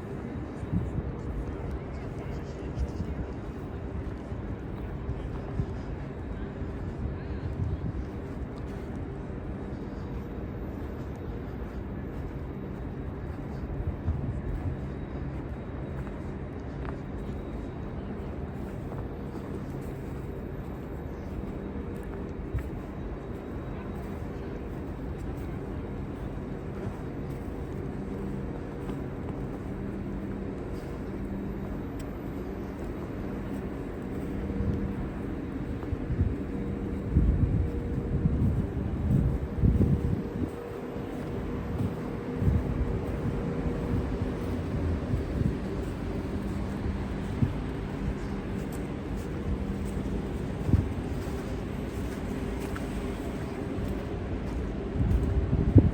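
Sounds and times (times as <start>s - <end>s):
city street traffic rumble: 0.0s - 55.9s
faint constant hum: 0.0s - 55.9s.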